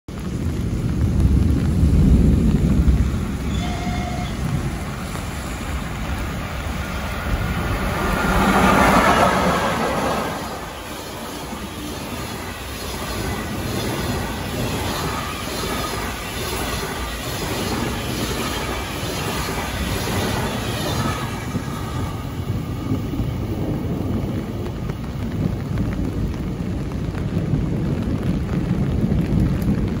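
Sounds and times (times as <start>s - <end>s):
train passing: 0.1s - 27.6s
rain: 0.1s - 30.0s
thunder rumble: 0.1s - 30.0s.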